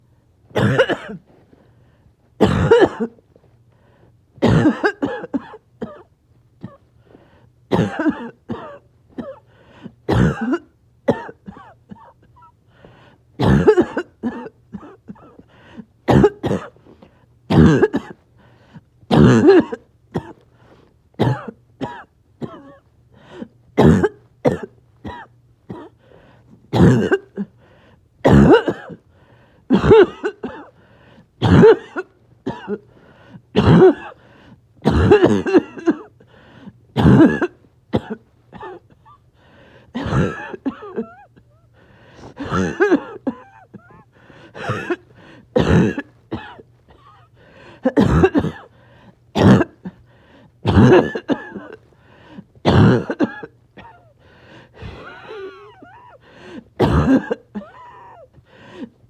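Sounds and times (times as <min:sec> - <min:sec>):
person coughing: 0:00.6 - 0:01.4, 0:02.4 - 0:03.2, 0:04.4 - 0:06.9, 0:07.7 - 0:12.6, 0:13.4 - 0:18.2, 0:19.1 - 0:26.0, 0:26.7 - 0:27.6, 0:28.2 - 0:30.8, 0:31.4 - 0:59.0.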